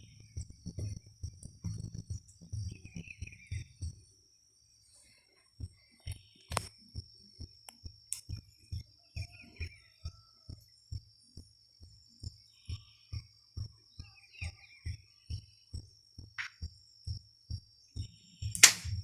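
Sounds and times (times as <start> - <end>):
distant music with thumping beat: 0.0 - 4.1, 5.6 - 19.0
high insect trill: 0.0 - 19.0.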